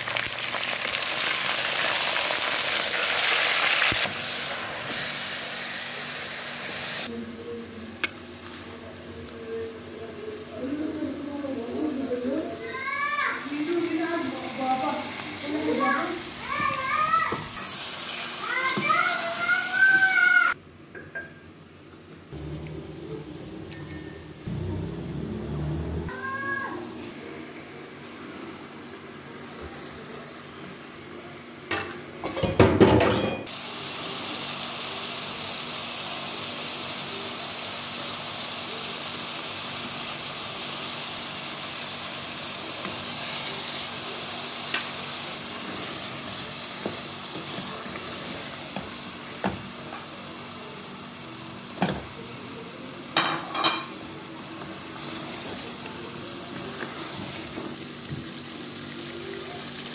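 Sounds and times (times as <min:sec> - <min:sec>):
chicken sizzling in a pot: 0:00.0 - 0:07.3, 0:08.2 - 0:21.5, 0:26.1 - 0:59.9.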